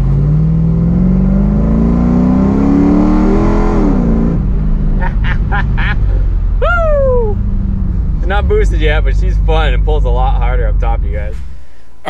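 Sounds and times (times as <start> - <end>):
engine accelerating from inside cab: 0.0 - 12.0.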